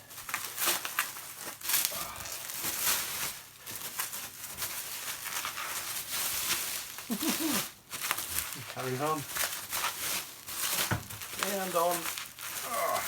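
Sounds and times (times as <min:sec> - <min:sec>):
packaging crinkling and rustling: 0:00.0 - 0:13.0
packaging tearing: 0:00.0 - 0:13.0.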